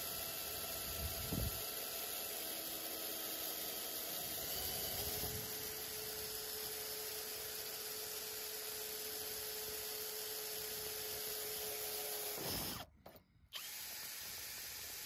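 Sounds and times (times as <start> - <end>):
power drill drilling: 0.0 - 12.9, 13.5 - 15.0.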